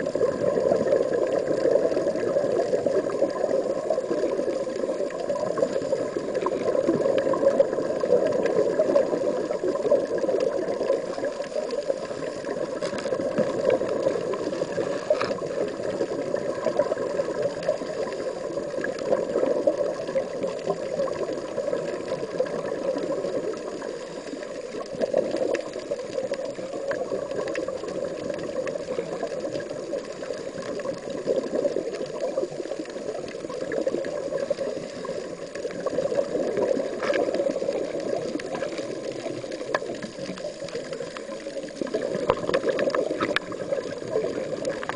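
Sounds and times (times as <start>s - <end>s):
underwater bubbling rush of water: 0.0s - 44.9s.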